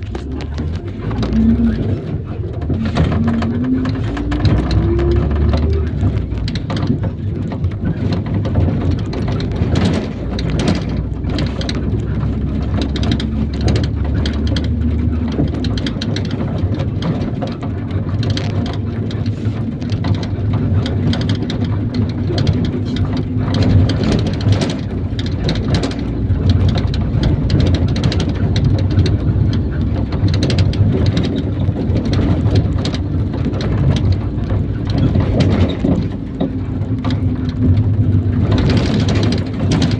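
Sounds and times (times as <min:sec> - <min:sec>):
body rattling and crackling: 0:00.0 - 0:39.9
bus engine drone: 0:00.0 - 0:39.9
road noise: 0:00.0 - 0:39.9.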